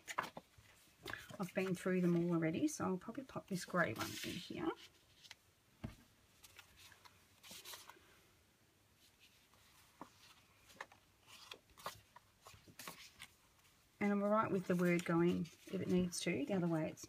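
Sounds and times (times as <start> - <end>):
paper cards rustling: 0.0 - 2.4, 3.7 - 5.4, 6.4 - 8.0, 9.1 - 17.0.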